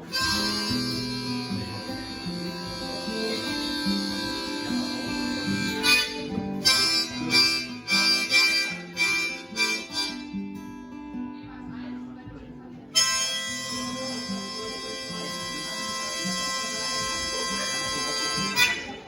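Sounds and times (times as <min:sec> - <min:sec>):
held melody line: 0:00.0 - 0:10.7, 0:13.0 - 0:19.0
guitar: 0:00.0 - 0:19.0.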